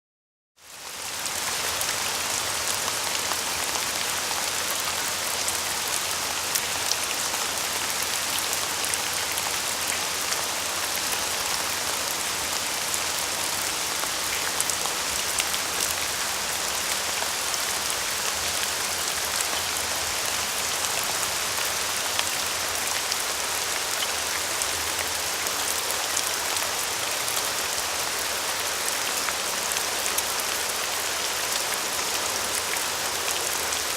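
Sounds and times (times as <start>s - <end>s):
rain pattering: 0.7s - 33.9s.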